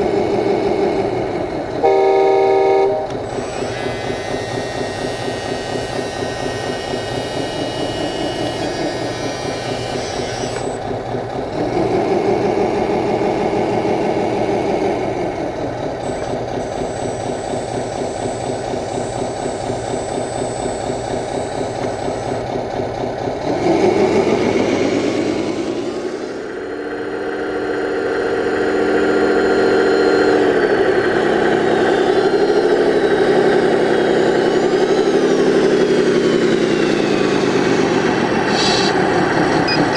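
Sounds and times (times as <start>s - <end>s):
electronic diesel truck engine sound: 0.0s - 39.9s.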